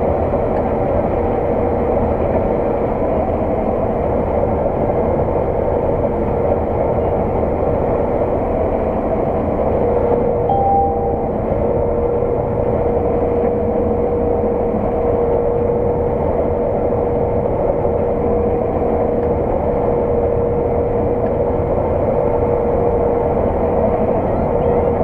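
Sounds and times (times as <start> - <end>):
combine harvester engine drone: 0.0 - 25.0
steady machinery whine: 0.0 - 25.0.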